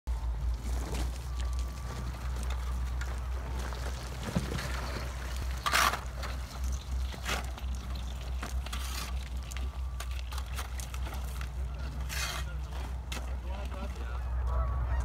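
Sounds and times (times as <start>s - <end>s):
steady low rumble: 0.1s - 15.0s
paddles splashing through thin ice: 0.3s - 14.6s.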